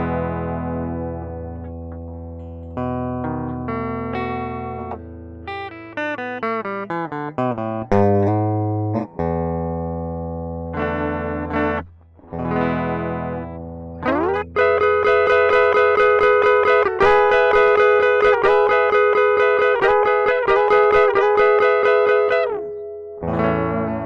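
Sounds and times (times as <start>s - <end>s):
electric guitar with effects: 0.0s - 24.0s.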